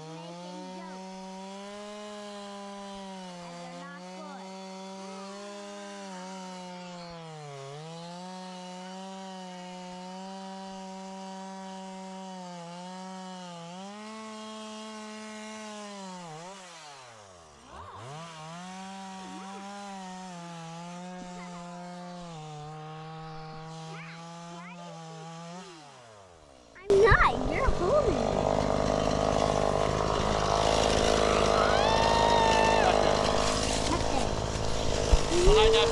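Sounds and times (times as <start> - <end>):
chainsaw running: 0.0 - 35.9.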